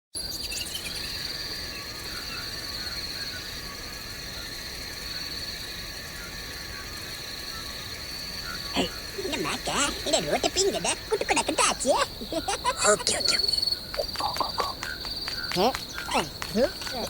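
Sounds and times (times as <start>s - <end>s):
faint short insect calls: 0.2s - 17.0s
high-pitched insect trill: 0.2s - 17.0s.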